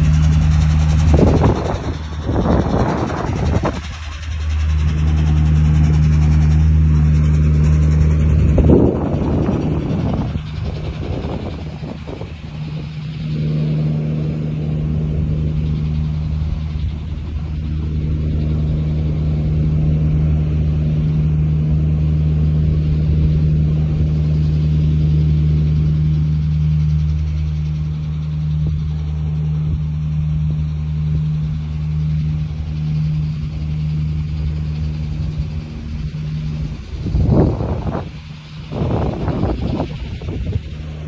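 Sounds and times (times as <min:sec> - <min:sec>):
loud rushing noise: 0:00.0 - 0:41.0
low mechanical hum: 0:00.0 - 0:41.0.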